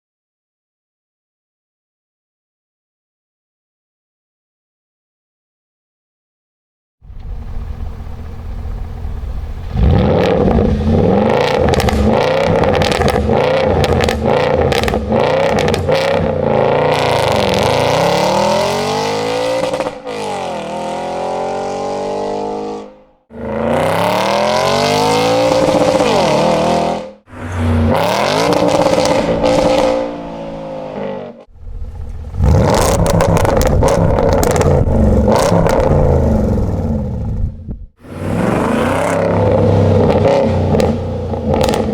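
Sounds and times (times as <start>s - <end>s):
car engine revving: 7.1s - 41.9s.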